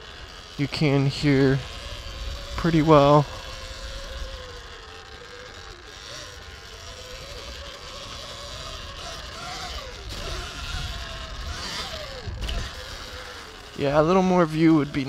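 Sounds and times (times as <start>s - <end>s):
electric motor whine: 0.0s - 15.0s
tyres rumbling on dirt trail: 0.0s - 15.0s.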